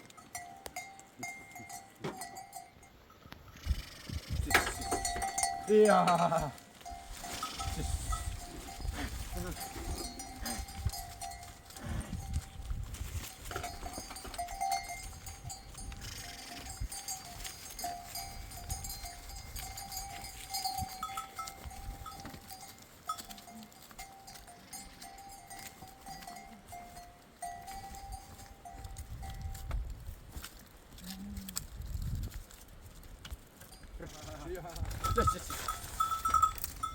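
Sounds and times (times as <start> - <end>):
animal bell ringing: 0.0 - 3.2, 4.0 - 29.7, 33.6 - 36.9.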